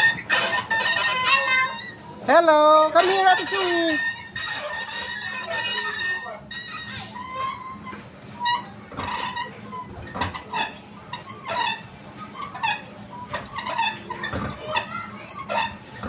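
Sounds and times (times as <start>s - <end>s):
wooden wheel squeaking: 0.0s - 16.0s.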